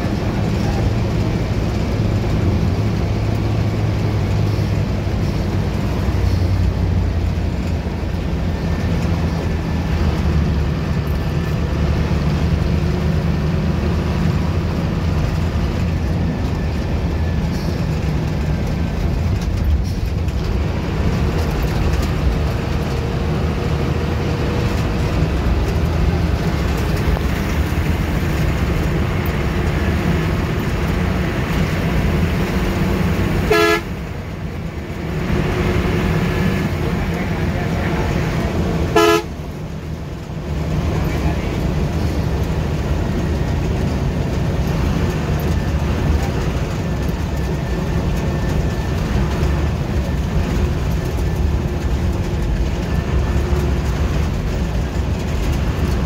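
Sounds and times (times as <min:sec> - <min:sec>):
bus engine drone: 0:00.0 - 0:56.0
road and rattle noise: 0:00.0 - 0:56.0.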